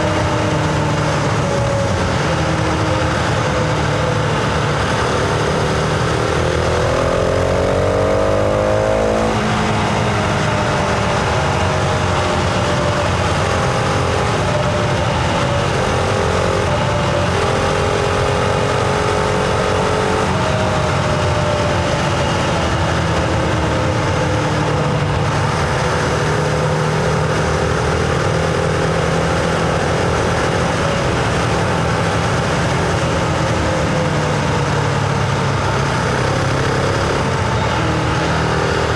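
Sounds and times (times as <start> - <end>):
motorcycle engine revving and cruising: 0.0 - 38.9.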